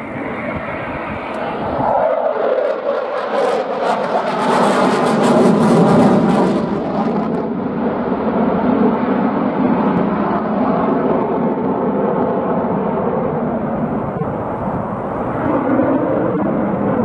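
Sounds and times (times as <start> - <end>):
jet fighter afterburner rumble: 0.0 - 17.0.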